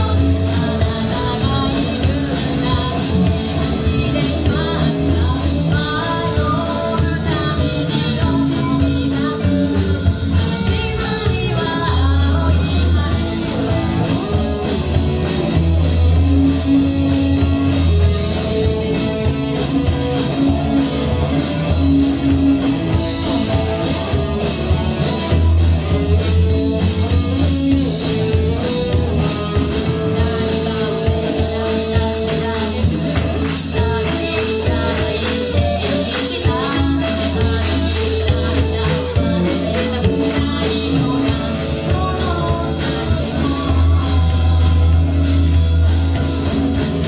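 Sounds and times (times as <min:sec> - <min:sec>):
person singing: 0:00.0 - 0:47.0
rock band playing: 0:00.0 - 0:47.0.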